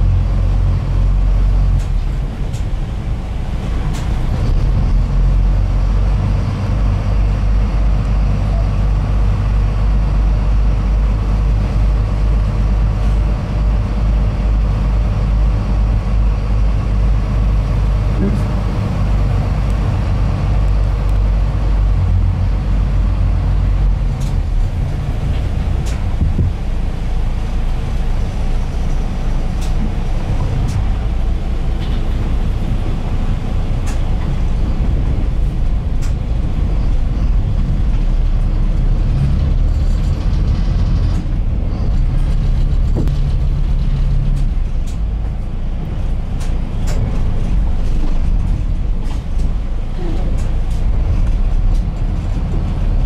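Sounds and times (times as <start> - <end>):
ferry engine droning: 0.0 - 53.0.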